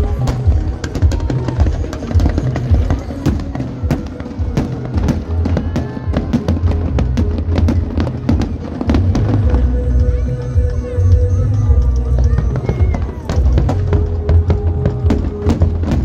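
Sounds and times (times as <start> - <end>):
fireworks bangs and crackles: 0.0 - 10.8, 12.1 - 16.0
loud music with heavy bass: 0.0 - 16.0.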